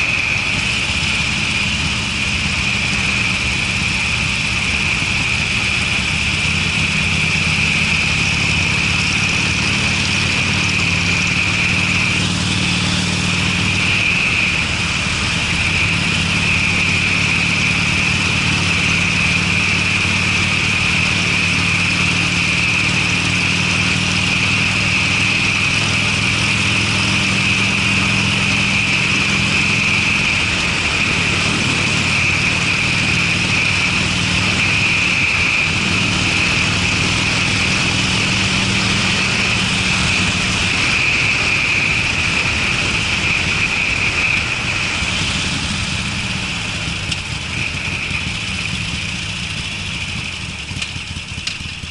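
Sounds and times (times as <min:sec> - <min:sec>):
motorcycle exhaust while riding: 0:00.0 - 0:51.9.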